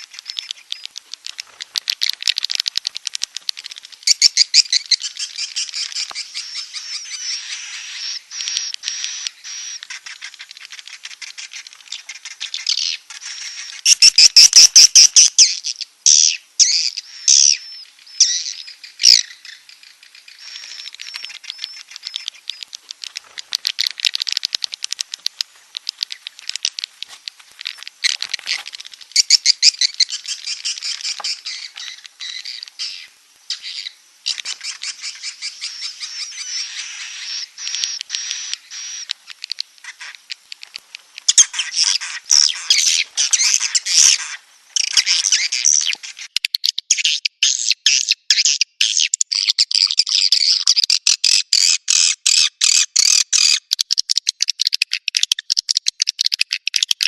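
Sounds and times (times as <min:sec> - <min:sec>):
swiftlets chirping and twittering: 0:00.0 - 0:57.0.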